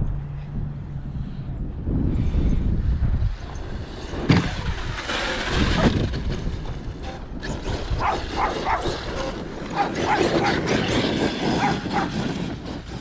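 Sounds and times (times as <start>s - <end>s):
rc monster truck running: 1.0s - 13.0s.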